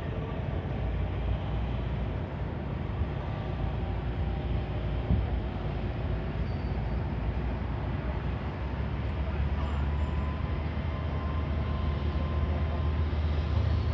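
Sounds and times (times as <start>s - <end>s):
faint steady tones: 0.2s - 13.9s.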